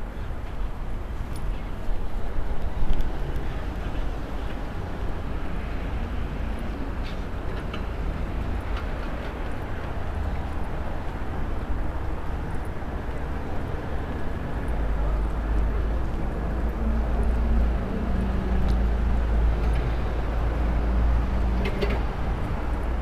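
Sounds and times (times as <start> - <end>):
city traffic: 0.0 - 23.0.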